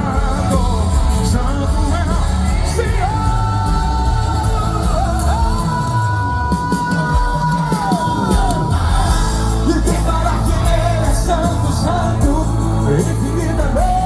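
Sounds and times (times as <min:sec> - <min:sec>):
gospel band music: 0:00.0 - 0:14.0
person singing: 0:00.0 - 0:14.0.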